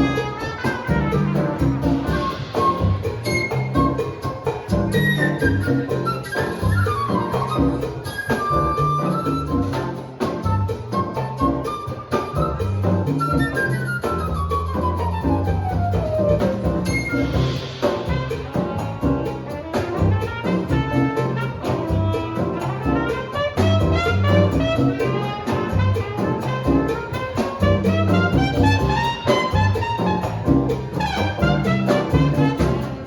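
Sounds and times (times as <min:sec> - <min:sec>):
latin jazz band playing: 0:00.0 - 0:33.0
percussion beat: 0:00.0 - 0:33.0.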